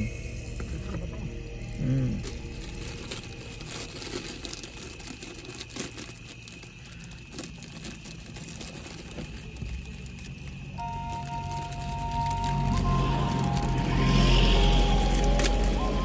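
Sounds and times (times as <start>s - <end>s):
plastic packet crinkling: 0.5s - 16.0s.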